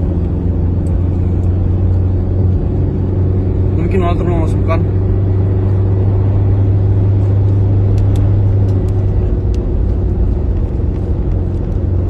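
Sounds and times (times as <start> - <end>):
strong low hum: 0.0 - 12.0
vehicle engine and tyres droning: 0.0 - 12.0.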